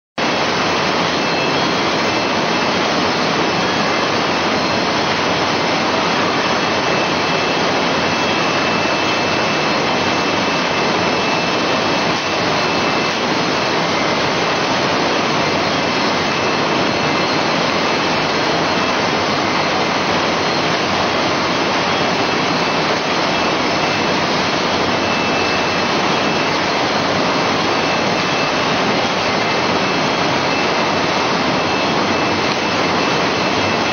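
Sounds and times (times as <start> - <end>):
faint high whine: 0.2 - 33.9
loud mechanical roar of machines: 0.2 - 33.9.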